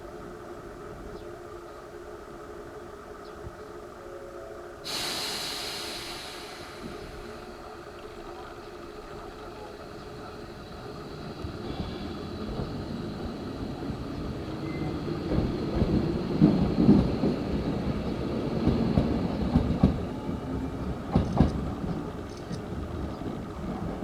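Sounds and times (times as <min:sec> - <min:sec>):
electric train running past: 0:00.0 - 0:24.0.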